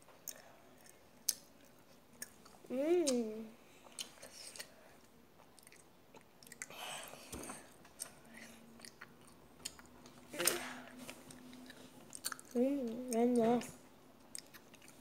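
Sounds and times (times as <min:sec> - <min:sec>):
person chewing candy: 0:00.2 - 0:03.2, 0:03.8 - 0:13.2, 0:14.2 - 0:15.0.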